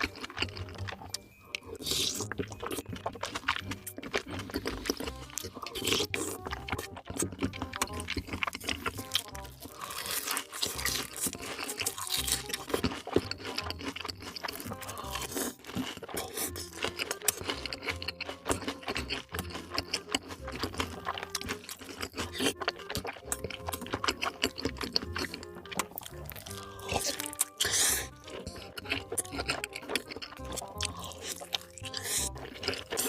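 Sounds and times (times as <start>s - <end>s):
background music: 0.0s - 33.0s
crunchy chewing and biting: 0.0s - 33.0s.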